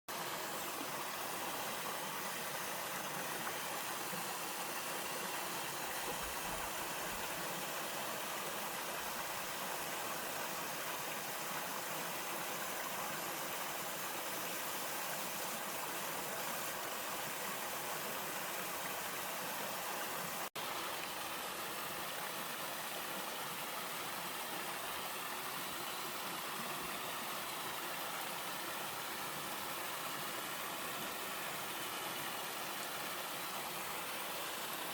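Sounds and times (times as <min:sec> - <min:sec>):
waterfall pouring and rushing: 0:00.1 - 0:34.9.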